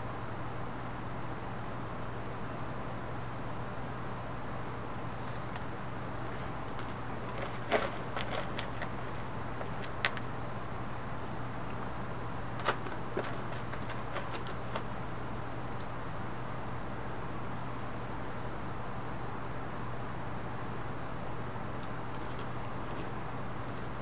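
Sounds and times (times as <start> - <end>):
steady hum and hiss: 0.0 - 24.0.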